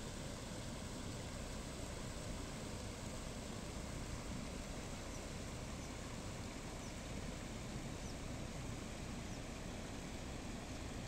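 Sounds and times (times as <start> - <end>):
rainwater rushing over a field: 0.0 - 11.0.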